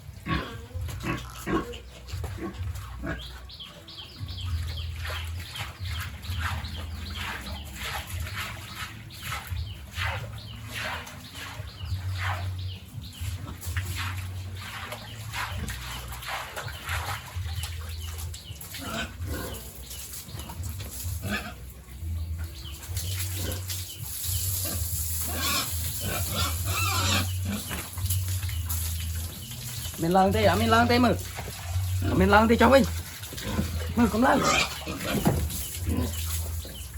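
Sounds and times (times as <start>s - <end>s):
pigs grunting and squealing: 0.0s - 36.9s.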